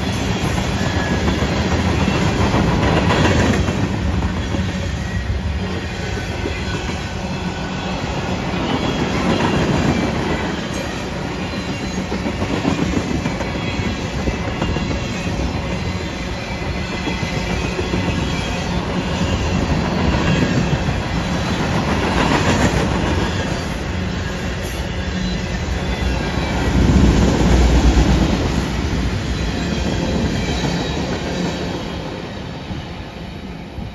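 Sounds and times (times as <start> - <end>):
train wheels rumbling and clacking: 0.0 - 33.9.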